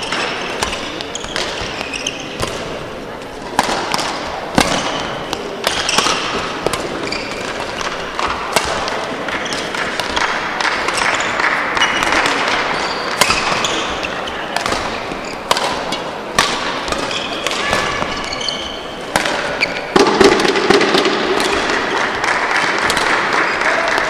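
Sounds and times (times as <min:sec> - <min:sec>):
racket hitting shuttlecock: 0:00.0 - 0:24.0.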